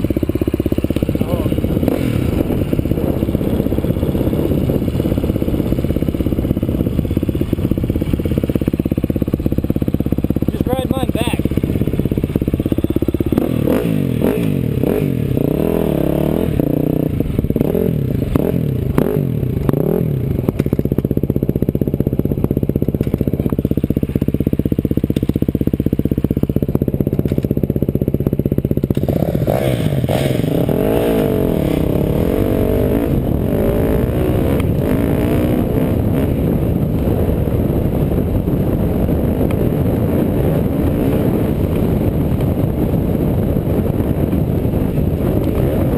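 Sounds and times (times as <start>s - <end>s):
off-road engine revving: 0.0s - 26.5s, 27.1s - 45.9s
rough terrain noise: 0.0s - 45.9s
wind noise: 0.0s - 45.9s.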